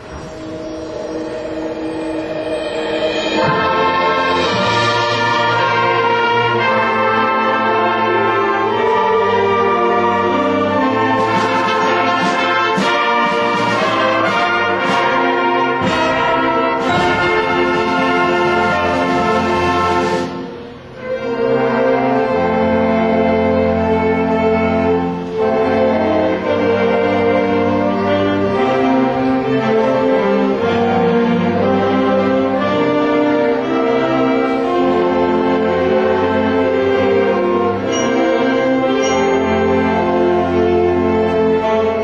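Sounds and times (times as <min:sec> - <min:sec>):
percussion strokes: 0:00.0 - 0:21.5, 0:23.8 - 0:42.0
concert band playing: 0:00.0 - 0:42.0.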